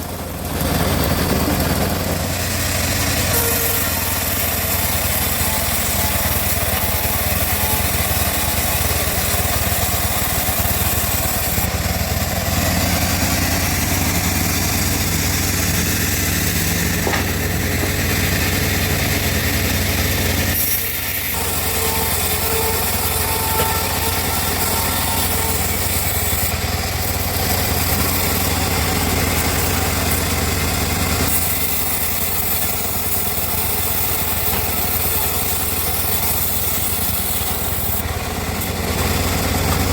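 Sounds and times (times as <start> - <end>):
bandsaw mill sawing wood: 0.0 - 39.9.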